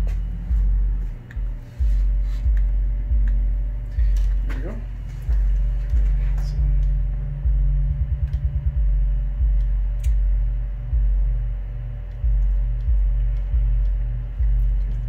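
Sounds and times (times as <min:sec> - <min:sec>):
deep bass notes from subwoofer: 0:00.0 - 0:15.0
stuttering bass pulses: 0:00.0 - 0:15.0.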